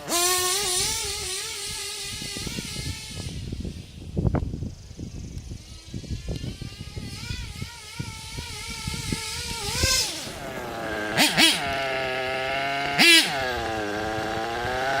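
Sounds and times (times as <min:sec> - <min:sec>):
model car engine revving: 0:00.0 - 0:15.0.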